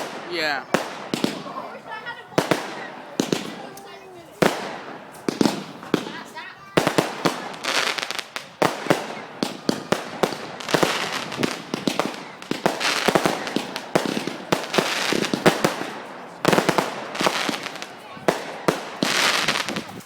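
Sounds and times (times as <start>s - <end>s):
fireworks bangs and cracks: 0.0s - 20.0s
fireworks crackling: 0.0s - 20.0s.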